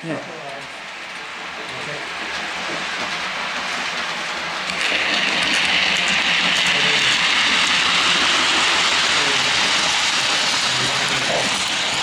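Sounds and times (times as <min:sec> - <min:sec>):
model train whirring on track: 0:00.0 - 0:12.0.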